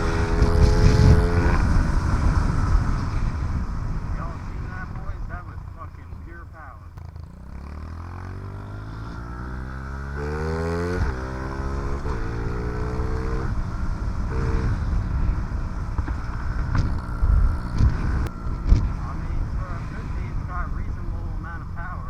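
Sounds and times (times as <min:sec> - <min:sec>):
dirt bike engine revving: 0:00.0 - 0:06.0, 0:07.0 - 0:21.9
low thumps: 0:00.0 - 0:07.3, 0:08.8 - 0:22.0.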